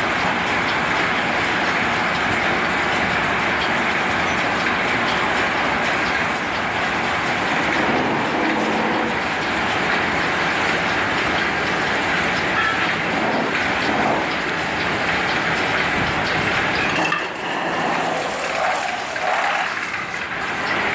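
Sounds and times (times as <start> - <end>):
metalworking machine running: 0.0 - 20.9.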